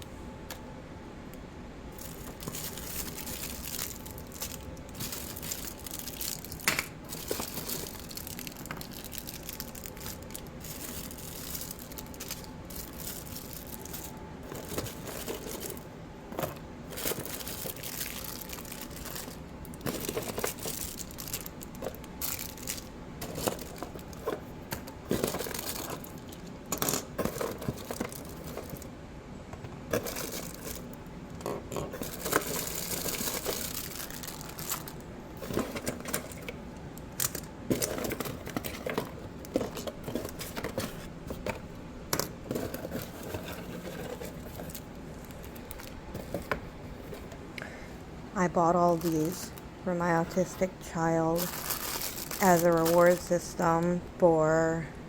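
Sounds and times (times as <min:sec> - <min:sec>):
plastic packaging crinkling: 0:01.9 - 0:28.9, 0:29.9 - 0:47.8, 0:48.9 - 0:53.6
plastic toys clicking and clattering: 0:02.0 - 0:28.9, 0:29.9 - 0:47.4, 0:51.4 - 0:53.6.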